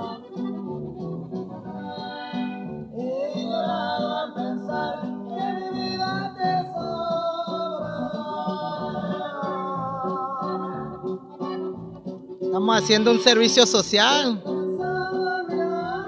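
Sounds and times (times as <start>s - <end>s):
guitar accompaniment: 0.0s - 16.0s
person singing: 1.7s - 11.9s, 12.5s - 16.0s.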